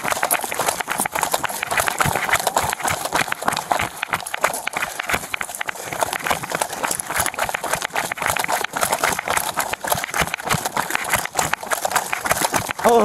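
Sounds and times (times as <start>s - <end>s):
running footfalls: 0.0s - 13.0s.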